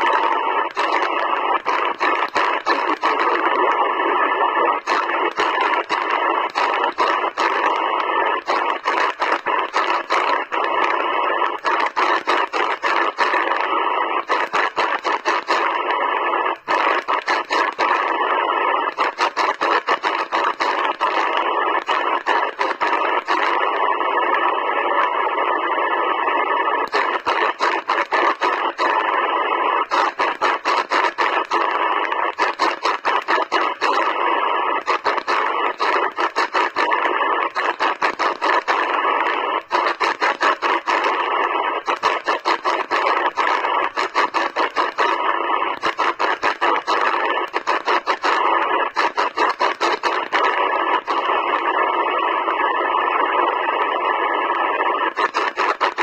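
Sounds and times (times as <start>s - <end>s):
radio crackles: 0.0s - 56.0s
radio static hiss: 0.0s - 56.0s.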